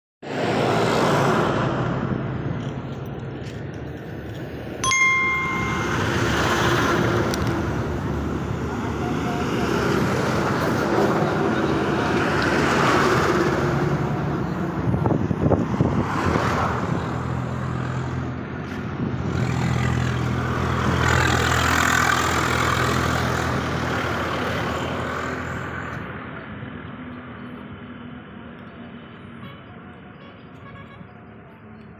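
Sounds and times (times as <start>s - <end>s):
road traffic passing: 0.2s - 31.9s.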